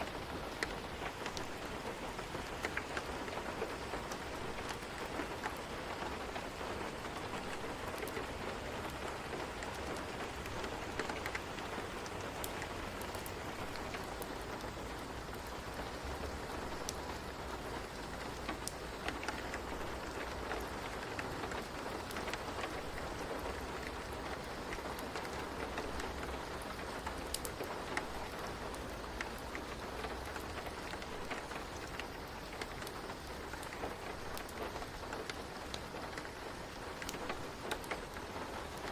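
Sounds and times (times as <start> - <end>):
raindrops ticking: 0.0 - 38.9
steady rain hiss: 0.0 - 38.9.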